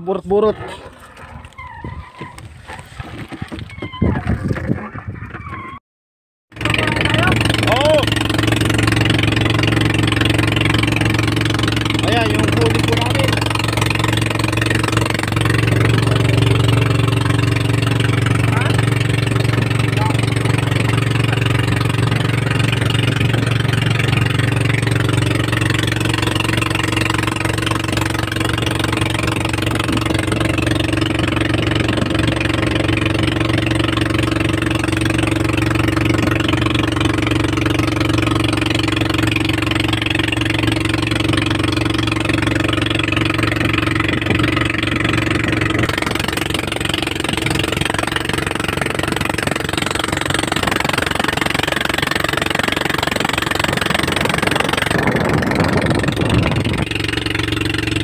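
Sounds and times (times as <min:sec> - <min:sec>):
boat engine humming: 0:06.5 - 0:58.0
water rushing along hull: 0:06.5 - 0:58.0.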